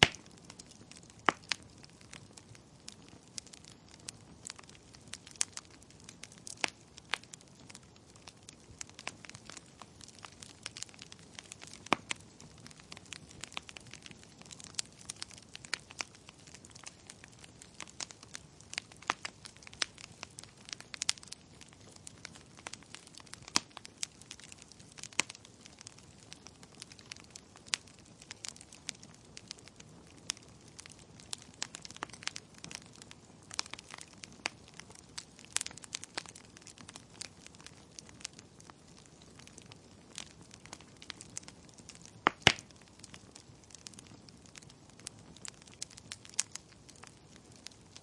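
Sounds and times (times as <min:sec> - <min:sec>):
soft hiss of flames: 0:00.0 - 0:48.0
wood fire crackling and popping: 0:00.0 - 0:48.0.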